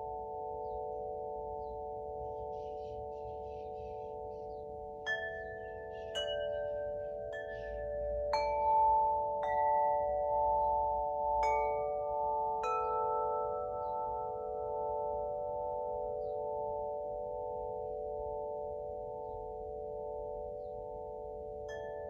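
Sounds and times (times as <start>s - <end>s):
wind chime ringing: 0.0s - 22.0s.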